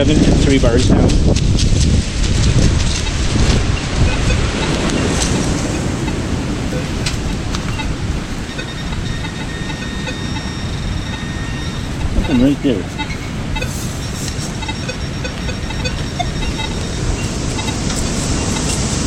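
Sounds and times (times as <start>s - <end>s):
wind buffeting microphone: 0.0s - 19.0s
high electronic tone: 2.5s - 19.0s.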